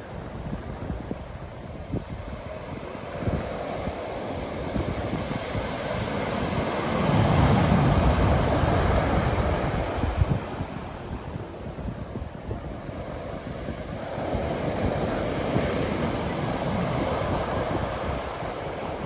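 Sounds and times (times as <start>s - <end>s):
ocean waves breaking: 0.0s - 19.0s
wind buffeting microphone: 0.0s - 19.0s.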